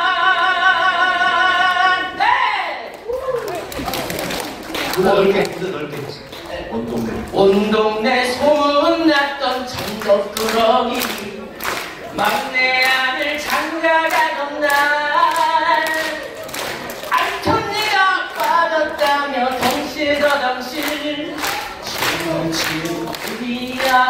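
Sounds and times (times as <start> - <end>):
person singing into microphone: 0.0 - 3.0, 6.9 - 24.0
sharp clapping beat: 2.9 - 24.0.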